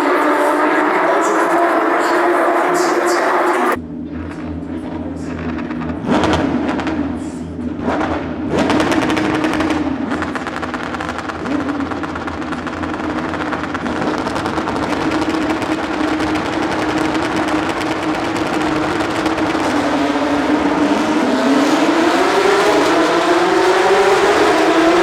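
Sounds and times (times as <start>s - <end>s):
race car engines revving: 0.0s - 25.0s
rattling exhaust crackle: 3.6s - 25.0s.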